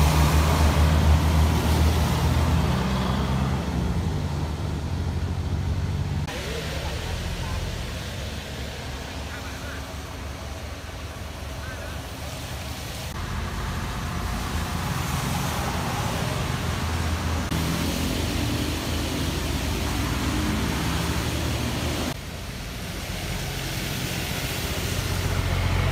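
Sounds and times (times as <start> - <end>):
engine hum: 0.0 - 25.9
roadside traffic: 0.0 - 25.9.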